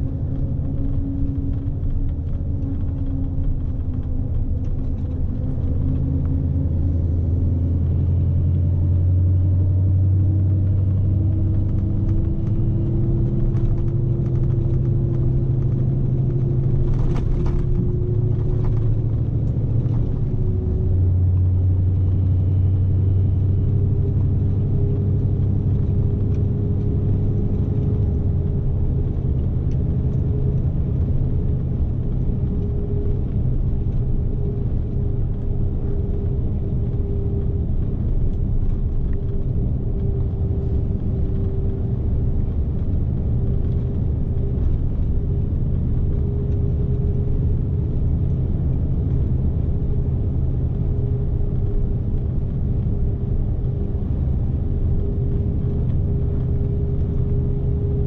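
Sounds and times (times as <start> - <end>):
diesel engine drone in cab: 0.0 - 58.0
tyre and road noise: 0.0 - 58.0.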